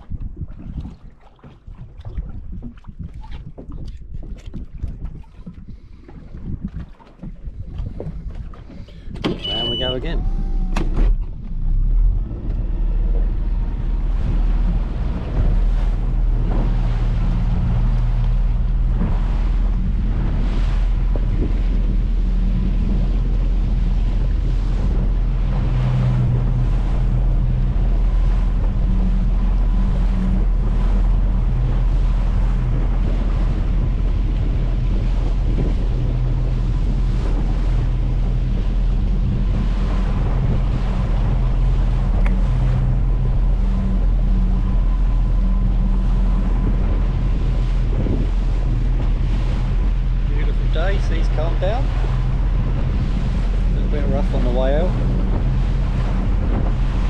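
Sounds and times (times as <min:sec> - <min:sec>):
boat engine running: 0:00.0 - 0:57.0
water washing against hull: 0:00.0 - 0:57.0
wind buffeting microphone: 0:00.0 - 0:57.0.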